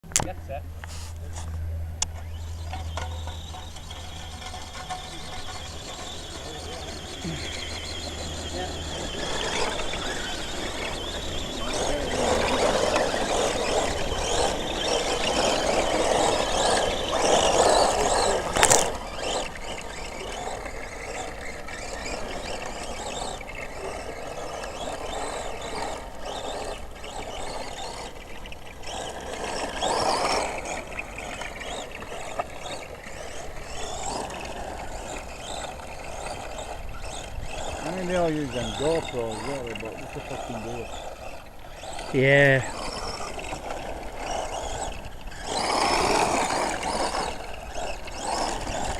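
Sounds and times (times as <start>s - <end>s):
toy truck motor whining: 0.8s - 48.9s
tyres rushing over ground: 1.1s - 48.9s.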